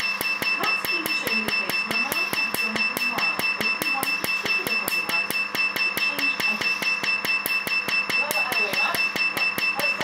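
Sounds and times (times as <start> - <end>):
high-pitched machine whine: 0.0 - 10.0.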